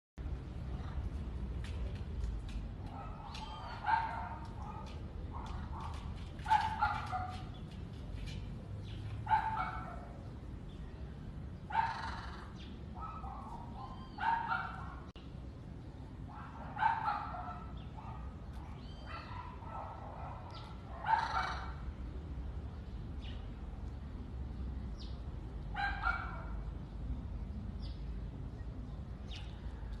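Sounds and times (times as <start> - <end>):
faint steady background noise: 0.2 - 30.0.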